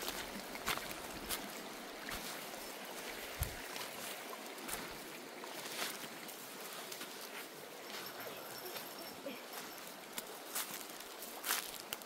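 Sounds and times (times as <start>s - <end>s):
footsteps crunching on gravel: 0.0s - 12.0s
shallow creek flowing: 0.0s - 12.0s.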